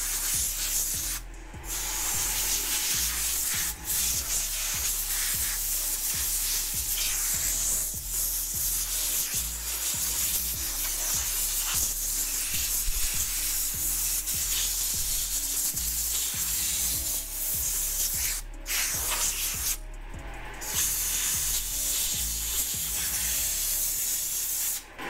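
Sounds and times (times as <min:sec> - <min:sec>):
compressed air blow gun hissing: 0:00.0 - 0:19.8, 0:20.6 - 0:24.9.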